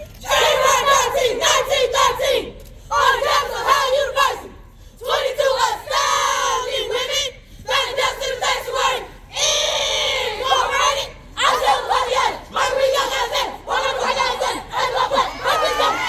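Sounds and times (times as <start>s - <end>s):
women chanting in unison: 0.2s - 16.0s.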